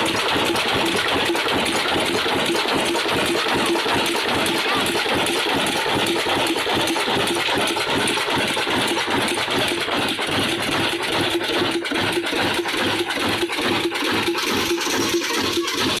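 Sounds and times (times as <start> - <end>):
diesel engine running rhythmically: 0.0 - 16.0.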